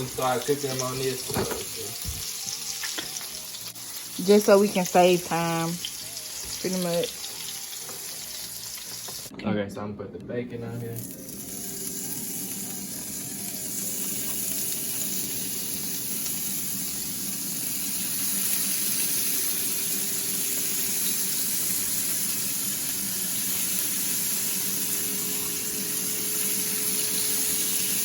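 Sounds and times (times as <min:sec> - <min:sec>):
bacon sizzling in a frying pan: 0:00.0 - 0:09.3, 0:11.0 - 0:28.0.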